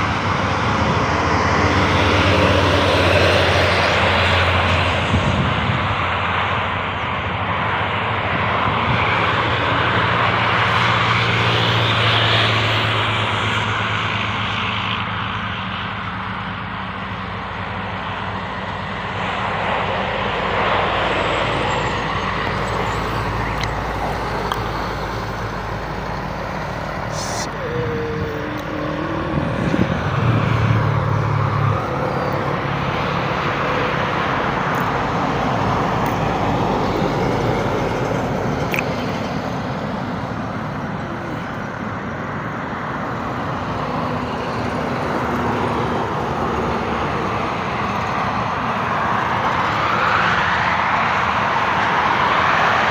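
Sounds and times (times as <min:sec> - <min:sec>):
heavy truck engine passing: 0:00.0 - 0:52.9
highway traffic passing: 0:00.0 - 0:52.9.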